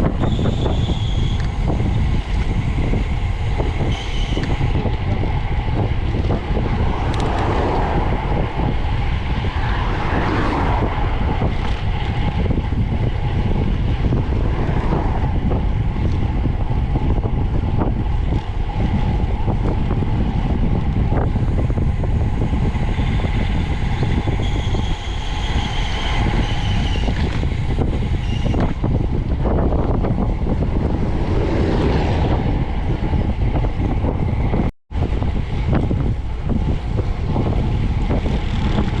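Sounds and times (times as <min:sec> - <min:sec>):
road rumble: 0:00.0 - 0:39.0
wind buffeting microphone: 0:00.0 - 0:39.0.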